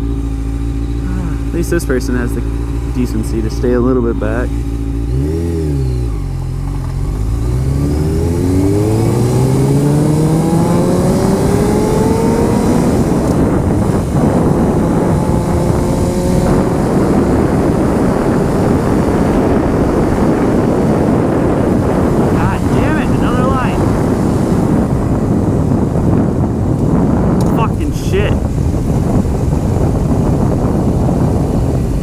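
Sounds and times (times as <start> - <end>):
motorcycle engine pulling hard: 0.0 - 32.0
wind noise on microphone: 0.8 - 32.0.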